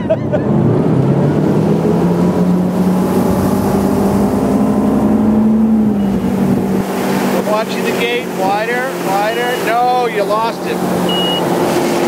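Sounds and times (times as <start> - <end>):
boat engine at full throttle: 0.0 - 12.0.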